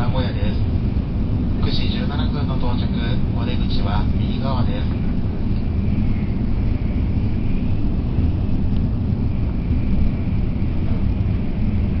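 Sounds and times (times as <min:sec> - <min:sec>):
faint high hum: 0:00.0 - 0:12.0
train rumbling at speed: 0:00.0 - 0:12.0.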